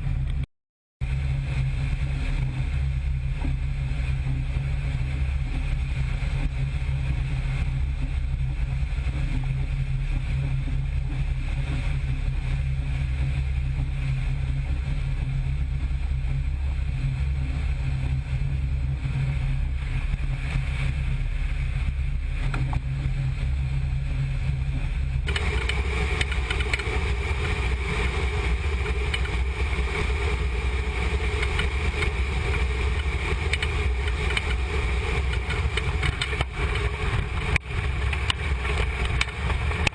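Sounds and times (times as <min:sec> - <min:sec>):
jet engines droning in flight: 0:01.0 - 0:39.9.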